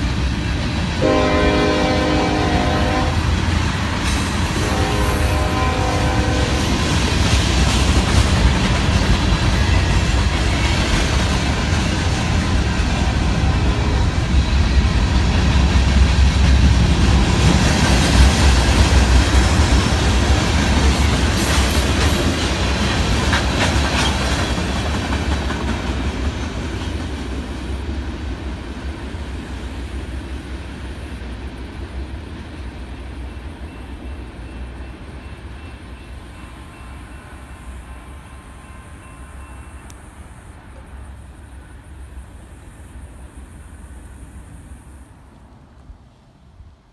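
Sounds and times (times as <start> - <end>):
freight train wheels on rails: 0.0 - 46.9.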